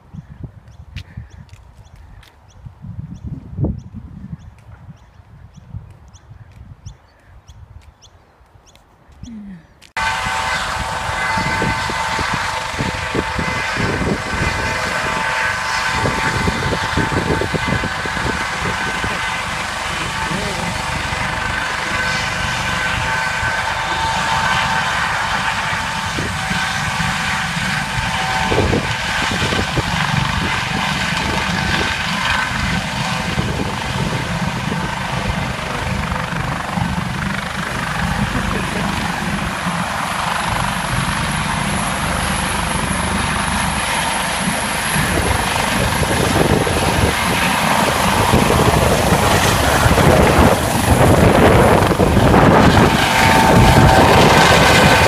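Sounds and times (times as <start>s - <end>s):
helicopter rotor noise: 10.0s - 55.0s
helicopter turbine whine: 10.0s - 55.0s.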